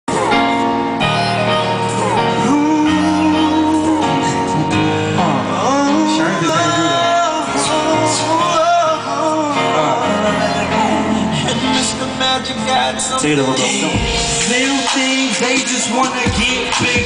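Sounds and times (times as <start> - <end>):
instrumental backing: 0.1 - 17.0
person singing: 0.1 - 17.0.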